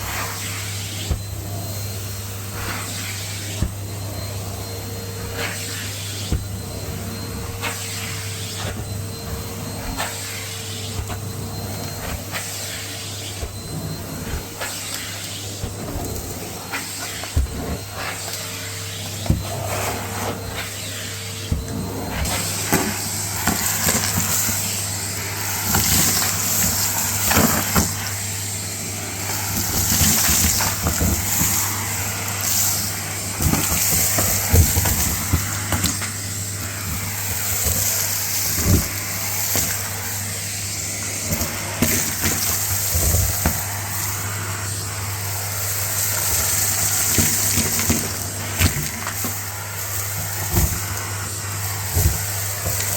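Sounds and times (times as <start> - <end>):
vacuum cleaner motor hum: 0.0 - 52.9.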